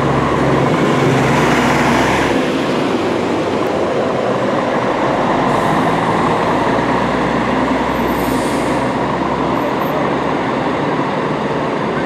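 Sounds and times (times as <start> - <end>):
coach diesel engine running: 0.0 - 12.0.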